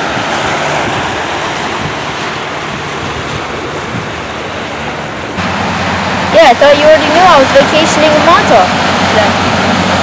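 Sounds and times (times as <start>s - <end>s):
waves washing onto stony beach: 0.0s - 10.0s
wind buffeting microphone: 0.0s - 10.0s.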